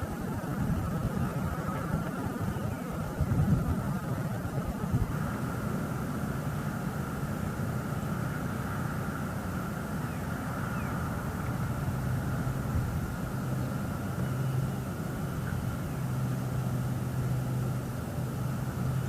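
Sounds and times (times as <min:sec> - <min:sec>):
low rumble with hum: 0:00.0 - 0:19.0.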